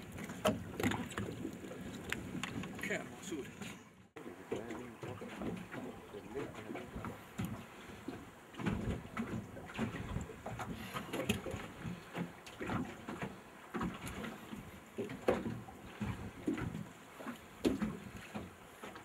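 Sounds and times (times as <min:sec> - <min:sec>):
water slapping boat hull: 0:00.0 - 0:19.0.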